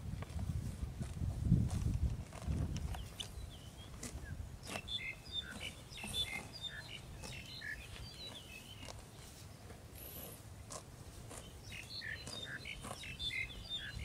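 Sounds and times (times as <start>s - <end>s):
small birds chirping: 2.6s - 14.0s.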